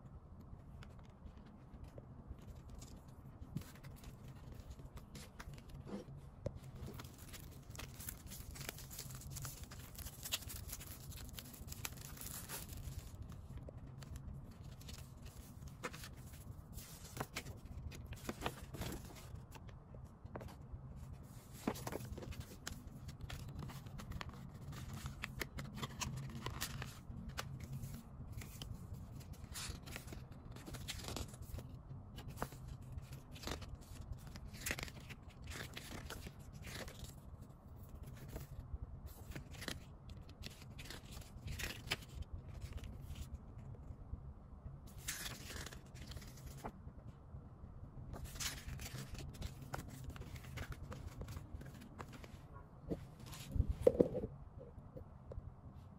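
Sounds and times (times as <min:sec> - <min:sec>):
low steady hum: 0:00.0 - 0:55.9
card and paper rustling: 0:00.7 - 0:37.2, 0:37.8 - 0:43.4, 0:44.9 - 0:46.8, 0:48.1 - 0:54.3.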